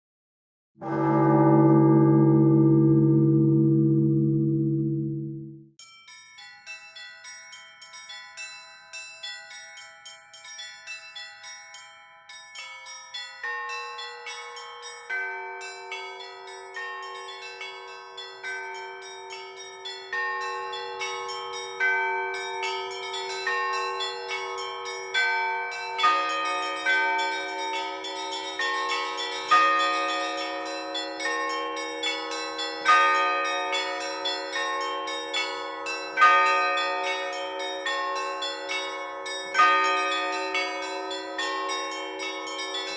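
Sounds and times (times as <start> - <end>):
large low-pitched bells: 0.8 - 5.6, 12.3 - 42.9
small high church bells: 0.8 - 5.6, 6.4 - 42.9.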